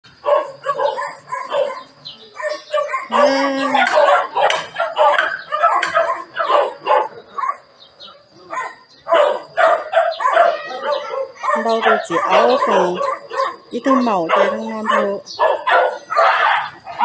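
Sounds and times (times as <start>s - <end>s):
dogs barking and yelping: 0.1s - 17.0s.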